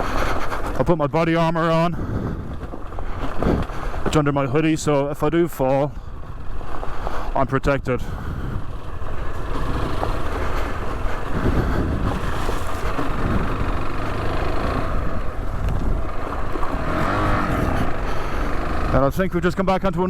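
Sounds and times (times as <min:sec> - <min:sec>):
wind rumble on microphone: 0:00.0 - 0:04.9, 0:05.8 - 0:19.0
motorcycle engine running: 0:00.0 - 0:20.0.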